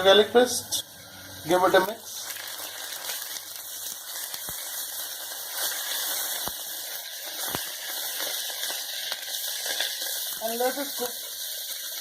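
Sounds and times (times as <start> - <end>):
paste sizzling in hot oil: 0.7 - 12.0.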